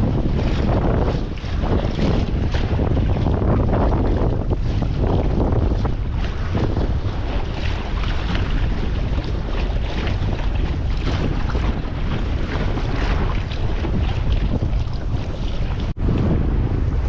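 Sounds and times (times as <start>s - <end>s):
water splashing along hull: 0.0s - 17.0s
wind rumbling on microphone: 0.0s - 17.0s.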